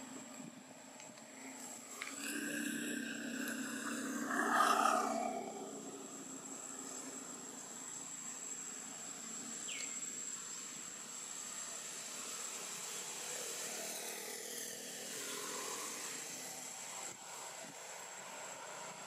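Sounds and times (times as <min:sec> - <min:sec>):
high-pitched insect drone: 0:01.6 - 0:19.0.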